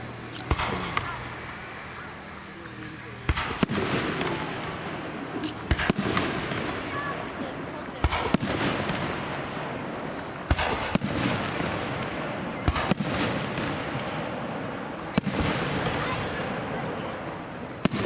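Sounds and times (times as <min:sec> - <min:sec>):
fireworks bursting: 0:00.0 - 0:18.0
noisy background: 0:00.0 - 0:18.0.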